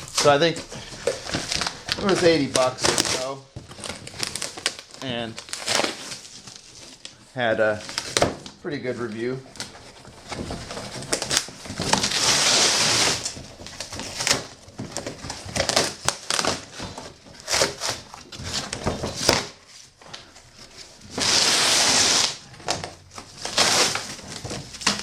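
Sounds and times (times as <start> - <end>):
packaging knocks and crinkles: 0.0 - 12.4, 13.0 - 21.2, 22.4 - 25.0.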